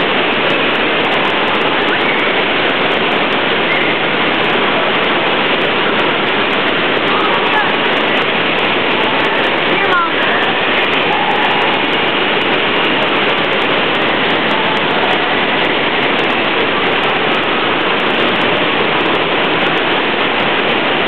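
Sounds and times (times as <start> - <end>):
loud rush of flowing water: 0.0 - 21.0.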